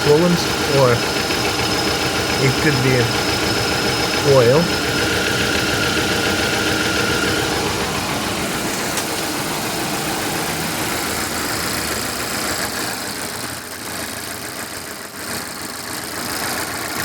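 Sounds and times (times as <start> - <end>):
engine idling and misfiring: 0.0 - 17.0.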